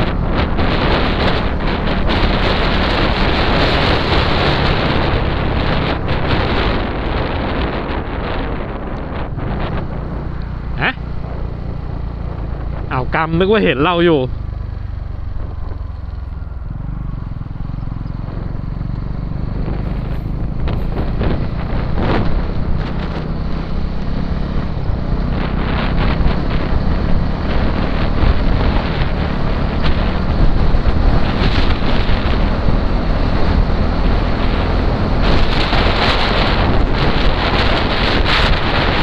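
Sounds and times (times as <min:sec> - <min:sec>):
motorcycle engine at speed: 0:00.0 - 0:39.0
wind buffeting on microphone: 0:00.0 - 0:39.0.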